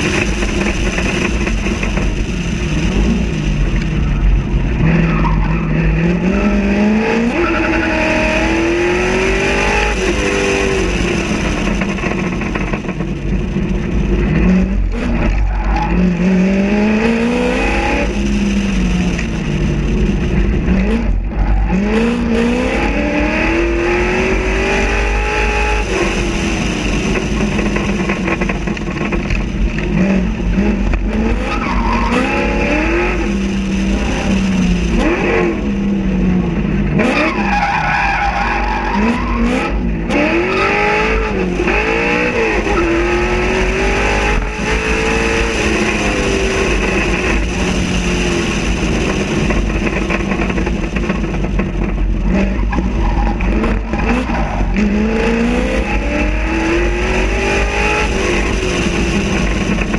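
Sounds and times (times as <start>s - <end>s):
car engine accelerating hard: 0.0s - 59.9s.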